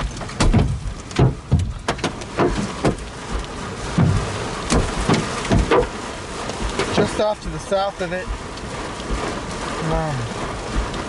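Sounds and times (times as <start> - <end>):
hailstones banging on vehicle: 0.0 - 11.0
hiss of falling hail and rain: 0.0 - 11.0.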